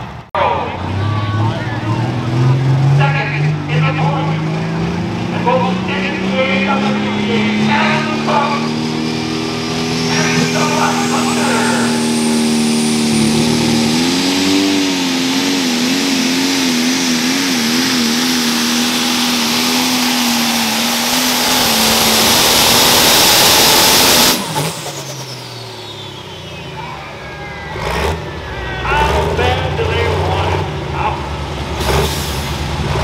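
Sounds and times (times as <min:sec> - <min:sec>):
diesel tractor engine at full throttle: 0:00.0 - 0:33.0
high turbo whine: 0:00.0 - 0:33.0.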